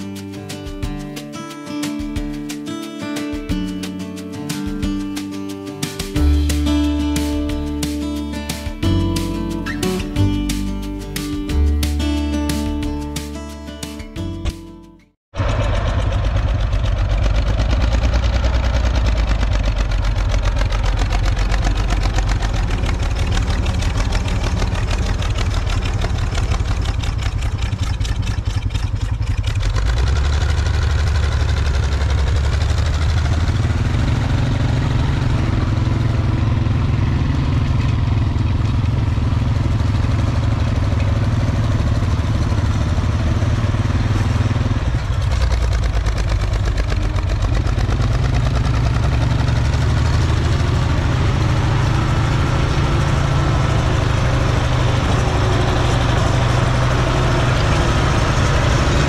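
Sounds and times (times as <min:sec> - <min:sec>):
tractor engine running: 0:03.4 - 0:14.7, 0:15.3 - 0:59.0.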